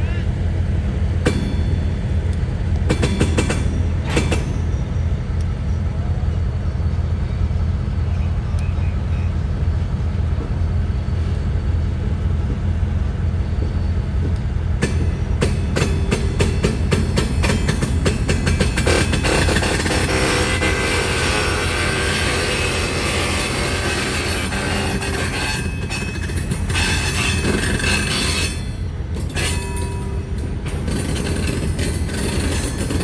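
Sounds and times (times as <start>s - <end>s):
diesel locomotive rumble: 0.0s - 33.0s
freight cars rolling on rails: 0.0s - 33.0s
wheels clacking over rail joints: 0.8s - 5.9s, 8.2s - 33.0s.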